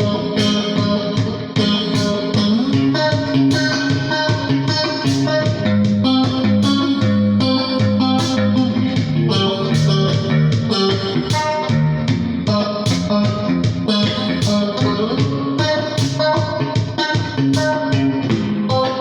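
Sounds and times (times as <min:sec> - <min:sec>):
electric guitar picked notes: 0:00.0 - 0:19.0.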